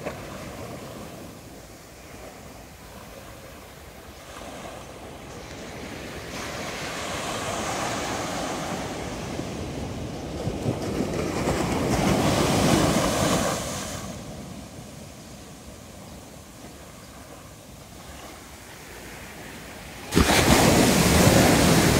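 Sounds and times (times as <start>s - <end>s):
small waves washing up beach: 0.0s - 21.9s.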